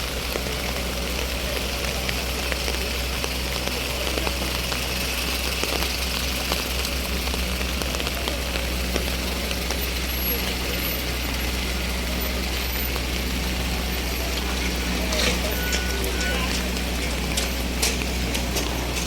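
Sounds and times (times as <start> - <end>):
heavy rain falling: 0.0 - 19.0
low engine hum: 0.0 - 19.0.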